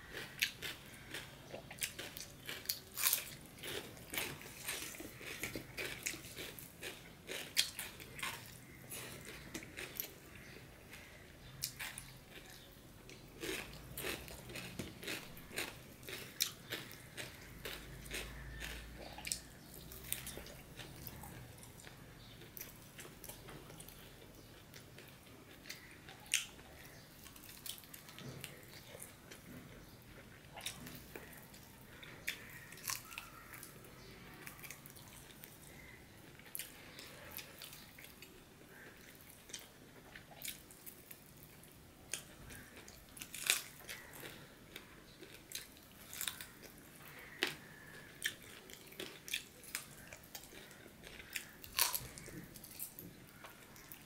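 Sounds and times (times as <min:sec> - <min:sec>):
man chewing food: 0:00.0 - 0:54.0.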